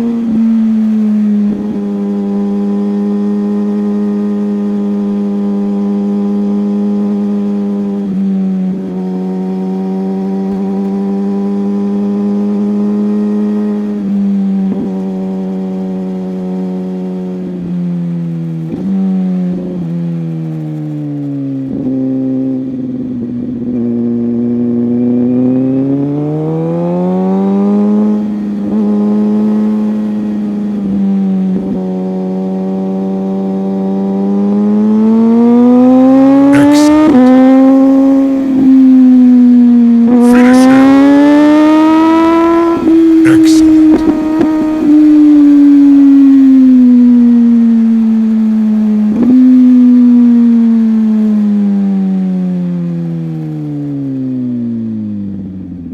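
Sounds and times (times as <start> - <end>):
motorcycle engine high-revving: 0.0 - 20.6, 21.7 - 54.2.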